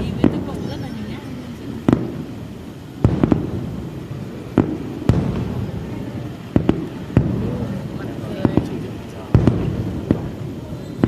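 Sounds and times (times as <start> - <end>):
distant fireworks bursting: 0.0 - 11.0.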